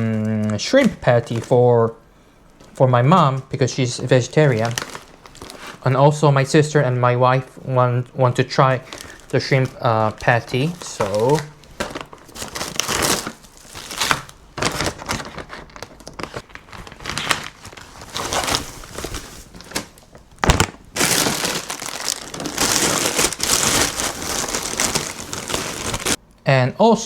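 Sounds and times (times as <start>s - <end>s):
plastic packaging crinkling: 0.0s - 6.5s, 8.0s - 26.2s.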